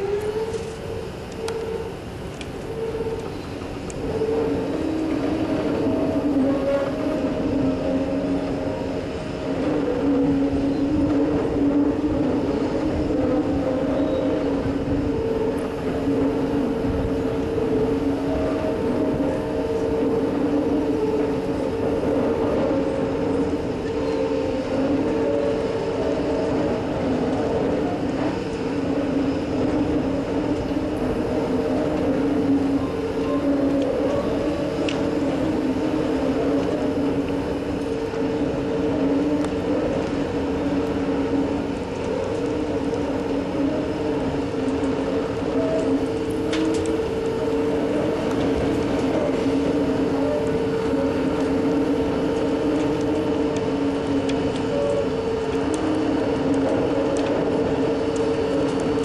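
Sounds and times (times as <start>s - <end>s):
constant whining tones: 0.0s - 59.0s
heavy machinery droning: 0.0s - 59.0s.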